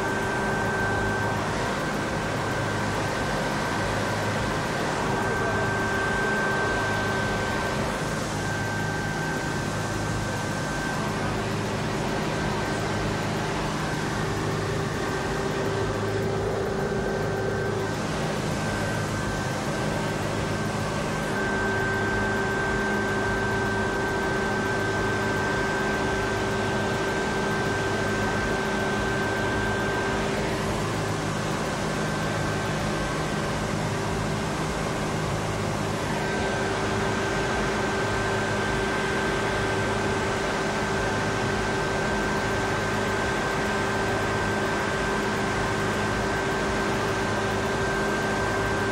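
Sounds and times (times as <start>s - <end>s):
high-pitched whine: 0.0s - 48.9s
mechanical drone with whine: 0.0s - 48.9s.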